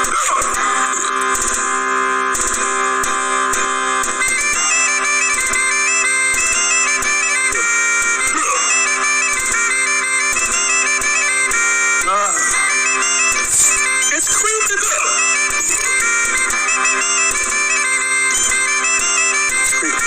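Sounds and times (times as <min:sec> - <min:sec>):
high melody over drone notes: 0:02.6 - 0:20.0.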